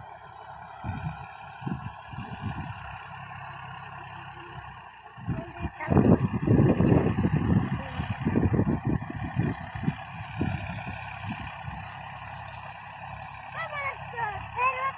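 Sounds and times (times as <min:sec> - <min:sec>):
tractor engine rumble: 0:00.0 - 0:14.9.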